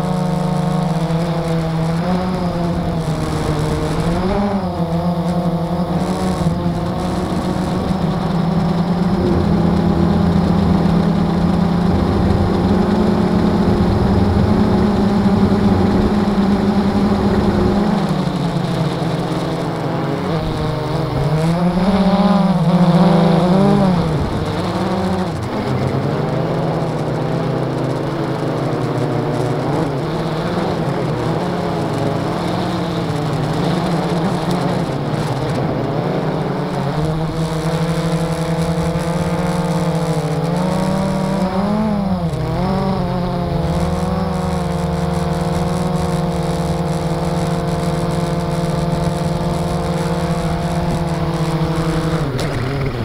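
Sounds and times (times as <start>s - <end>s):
quadcopter propellers humming: 0.0s - 53.0s.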